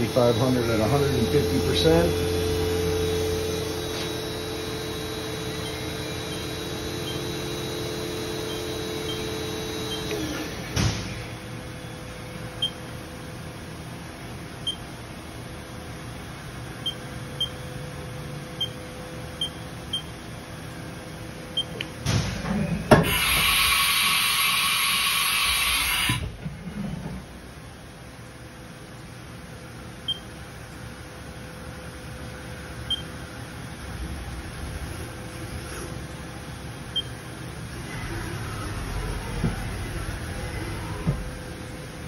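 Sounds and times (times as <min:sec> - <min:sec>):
mill spindle humming: 0:00.0 - 0:42.0.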